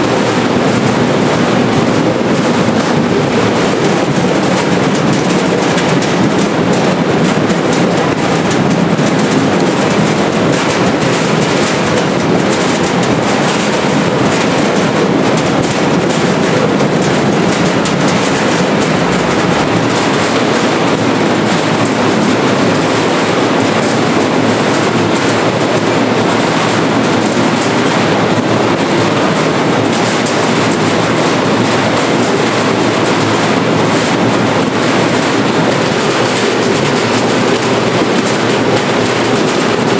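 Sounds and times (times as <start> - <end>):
machine rattling with tumbling potatoes: 0.0 - 39.9.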